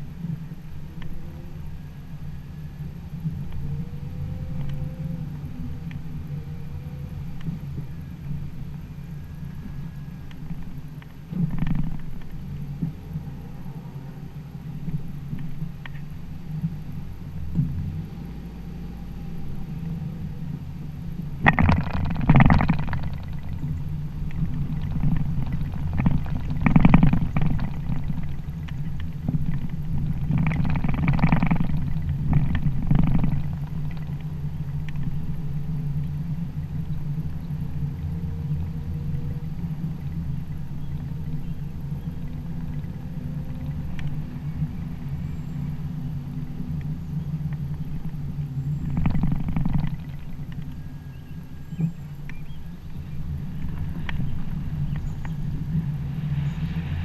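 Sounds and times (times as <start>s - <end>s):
rushes of noise: 0.0s - 57.0s
vehicle engine and tyres rumble: 0.0s - 57.0s.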